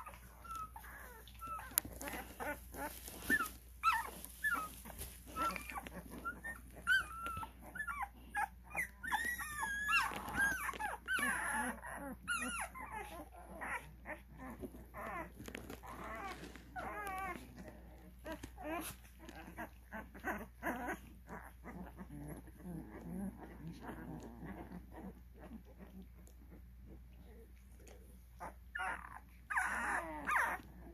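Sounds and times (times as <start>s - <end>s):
puppies whimpering: 0.0s - 30.9s.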